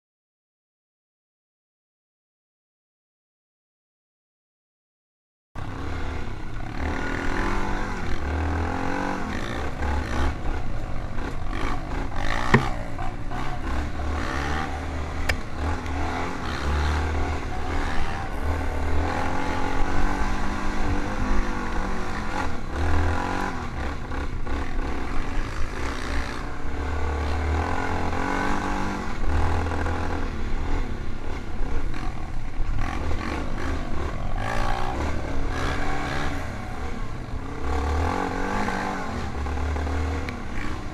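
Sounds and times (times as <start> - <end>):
off-road engine revving: 5.6 - 40.9.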